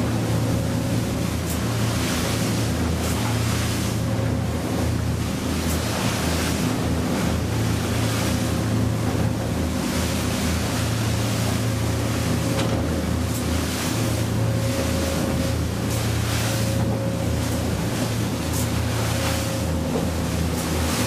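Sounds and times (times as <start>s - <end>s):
motorboat engine drone: 0.0s - 21.0s
rushing wake water: 0.0s - 21.0s.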